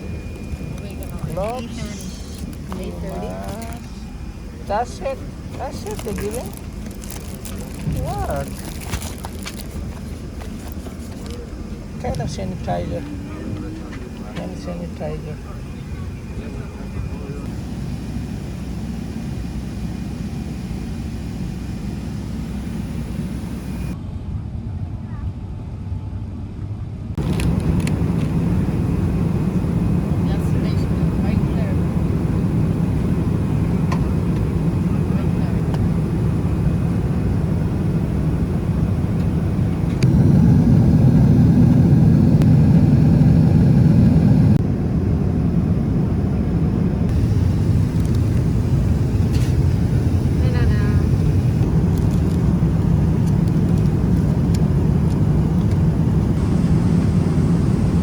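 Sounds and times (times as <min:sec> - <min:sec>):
jet engines and airflow rush: 0:00.0 - 0:58.0.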